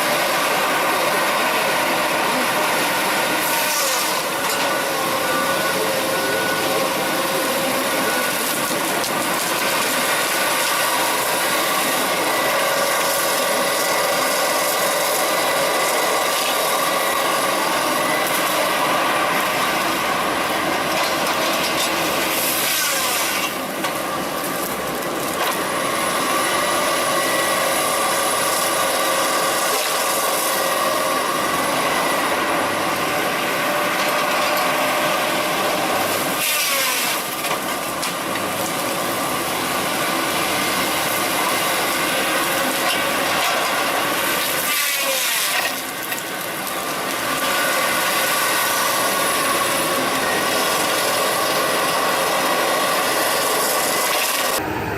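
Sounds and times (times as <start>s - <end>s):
wood-processing machinery droning: 0.0s - 54.9s.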